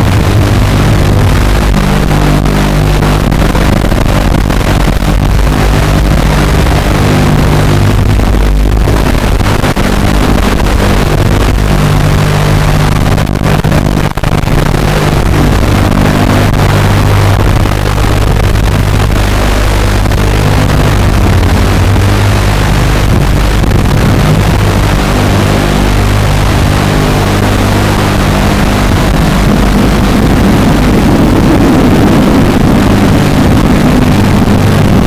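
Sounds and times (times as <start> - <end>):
drone motors and propellers droning: 0.0 - 35.0.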